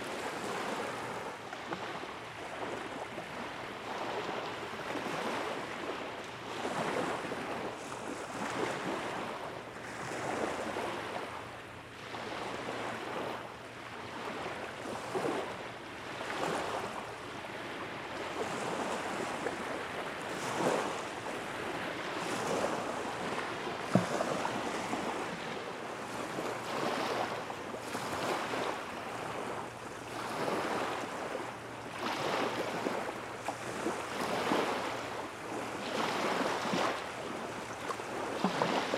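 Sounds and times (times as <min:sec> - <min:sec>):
small waves lapping: 0:00.0 - 0:38.9.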